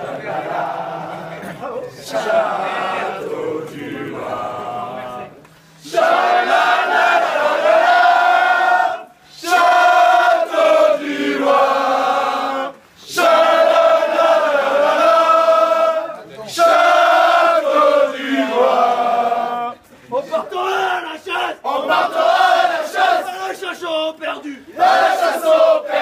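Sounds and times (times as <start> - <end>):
men singing a chant: 0.0 - 5.3, 5.9 - 19.8, 21.2 - 26.0.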